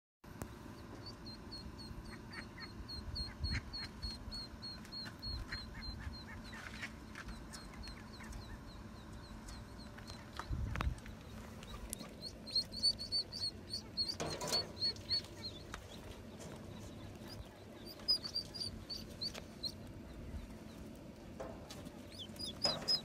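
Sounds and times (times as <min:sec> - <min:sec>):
ducklings peeping: 0:00.4 - 0:23.0.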